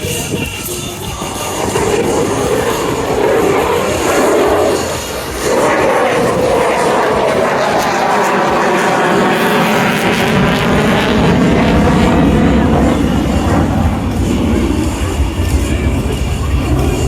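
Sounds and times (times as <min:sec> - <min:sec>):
airplane engine droning: 0:00.0 - 0:17.0.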